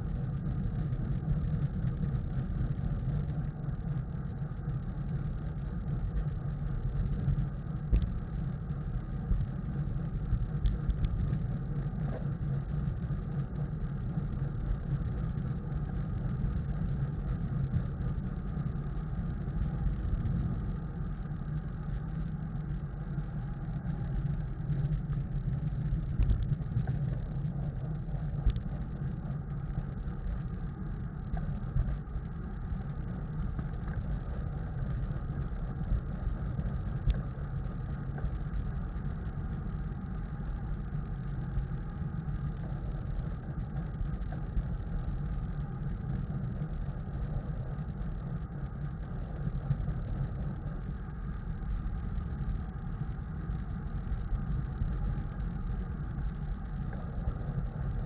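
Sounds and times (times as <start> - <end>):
bike tyre road noise: 0.0 - 58.0.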